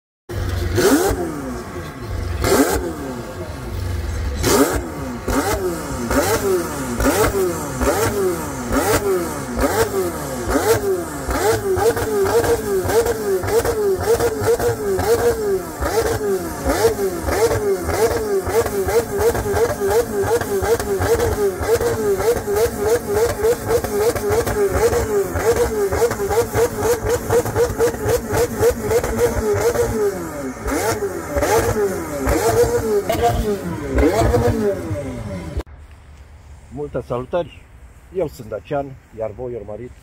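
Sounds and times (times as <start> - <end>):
car engine throttle blips: 0.3 - 35.7.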